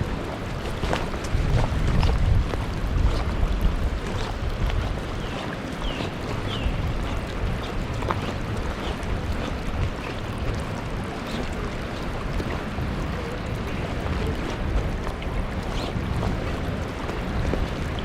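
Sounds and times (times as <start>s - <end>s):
river water rushing over rocks: 0.0s - 18.0s.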